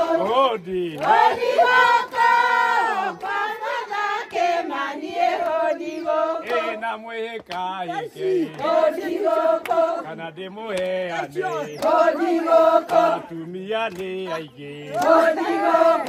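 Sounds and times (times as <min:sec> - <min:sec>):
women singing and chanting: 0:00.0 - 0:16.0.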